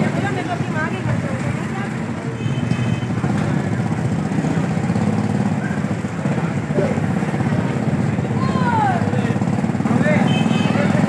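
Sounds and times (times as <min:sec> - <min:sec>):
street engine rumble: 0:00.0 - 0:11.0.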